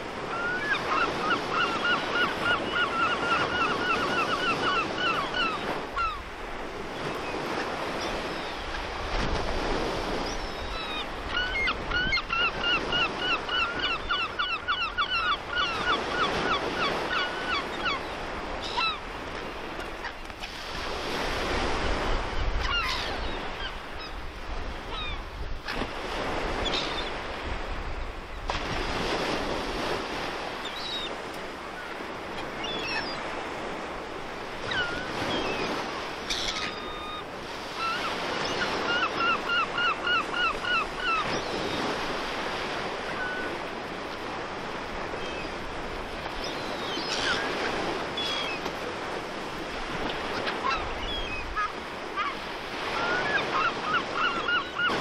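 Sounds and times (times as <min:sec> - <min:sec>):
sea surf: 0:00.0 - 0:55.0
wind: 0:00.0 - 0:55.0.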